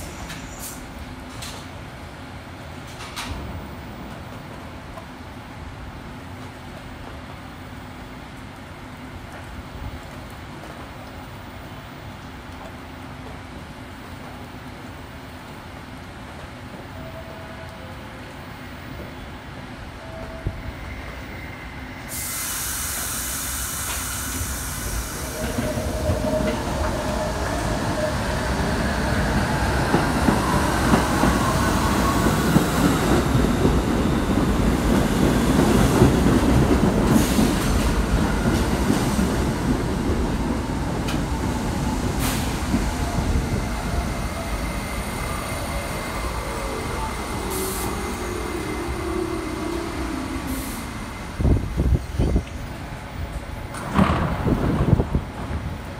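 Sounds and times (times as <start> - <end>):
subway train wheels clattering: 0.0 - 55.9.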